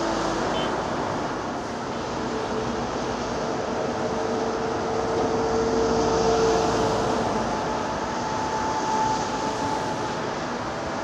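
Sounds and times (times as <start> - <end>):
diesel engine: 0.0 - 11.0.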